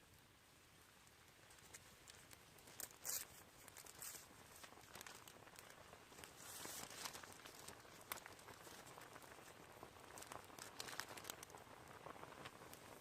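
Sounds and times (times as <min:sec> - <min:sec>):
faint rustling and crinkling: 0:00.0 - 0:13.0
sharp clicks and crackles: 0:01.0 - 0:13.0.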